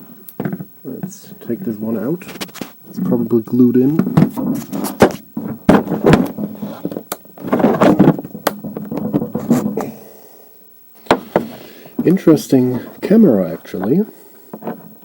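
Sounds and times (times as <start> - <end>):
scraping and rustling: 0.4 - 10.1, 11.0 - 15.0.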